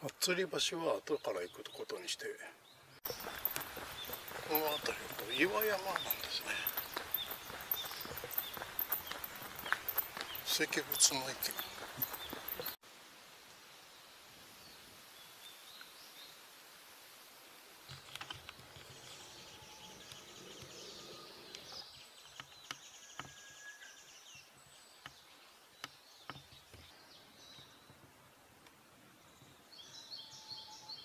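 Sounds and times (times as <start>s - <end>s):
small birds chirping: 0.4s - 12.8s, 17.9s - 31.0s.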